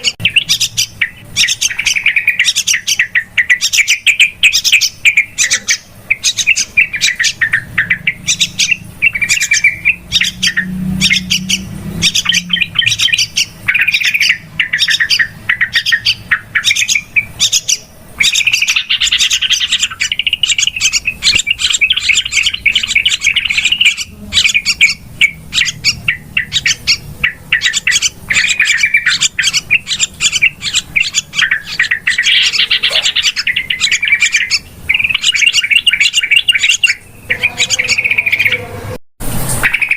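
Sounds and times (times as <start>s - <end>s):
birds chattering calls: 0.0s - 39.9s.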